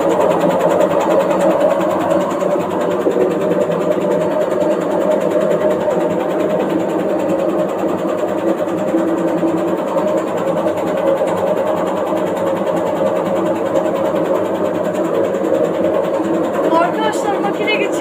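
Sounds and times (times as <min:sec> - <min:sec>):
washing machine rattling: 0:00.0 - 0:18.0.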